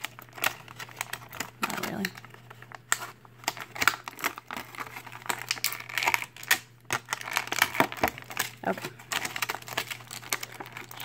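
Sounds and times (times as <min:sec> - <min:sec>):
plastic packaging crackling: 0:00.0 - 0:11.0.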